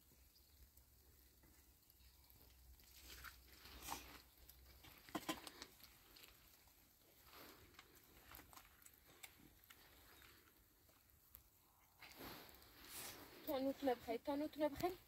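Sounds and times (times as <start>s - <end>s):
pattering on tent fabric: 1.4s - 14.0s.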